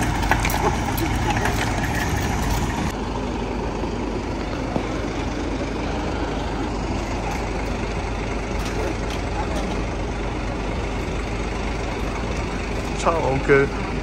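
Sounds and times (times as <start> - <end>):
bus engine rumbling: 0.0 - 14.0
street noise: 0.0 - 14.0.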